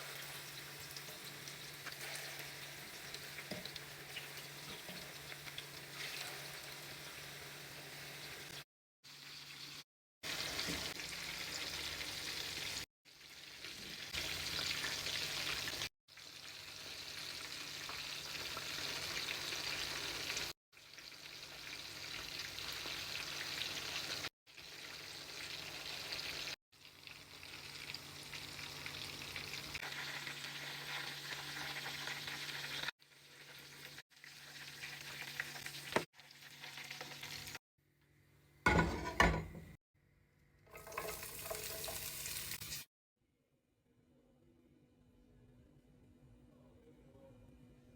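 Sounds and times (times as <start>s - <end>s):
food sizzling in hot oil: 0.0s - 37.6s, 40.7s - 42.9s.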